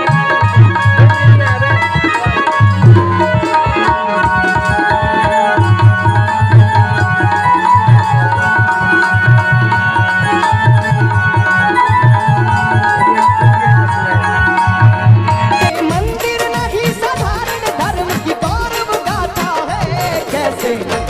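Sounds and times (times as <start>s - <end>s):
held melody line: 0.0s - 21.0s
tabla rhythm: 0.0s - 21.0s.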